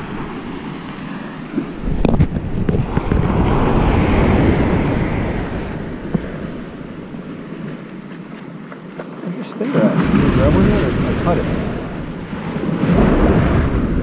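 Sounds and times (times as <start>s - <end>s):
wind buffeting microphone: 0.0s - 8.4s, 9.8s - 14.0s
surf breaking on beach: 0.0s - 14.0s.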